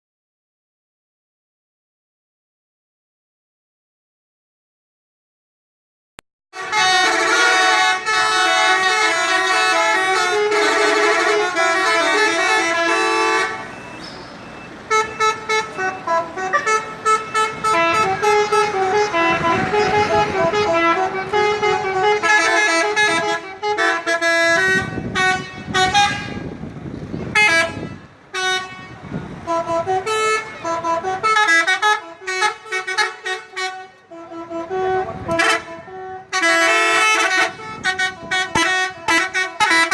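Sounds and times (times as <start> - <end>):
multi-tone bus air horns: 6.5 - 39.9.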